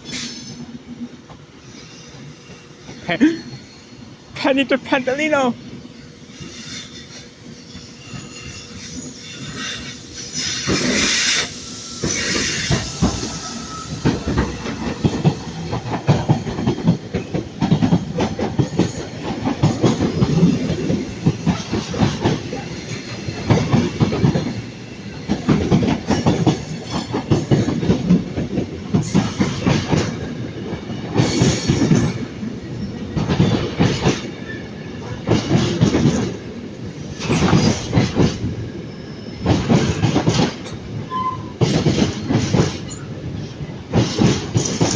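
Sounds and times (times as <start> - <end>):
train wheels clattering: 6.3 - 43.2.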